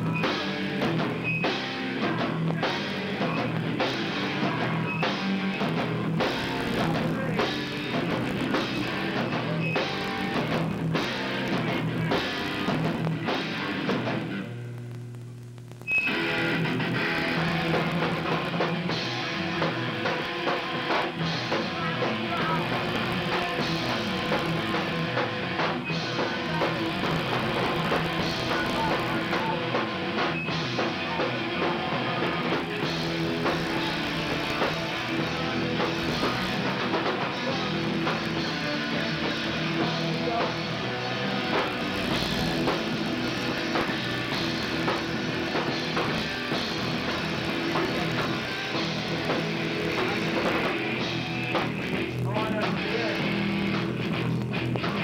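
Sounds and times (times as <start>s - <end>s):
punk band playing live: 0.0s - 14.6s, 15.9s - 55.0s.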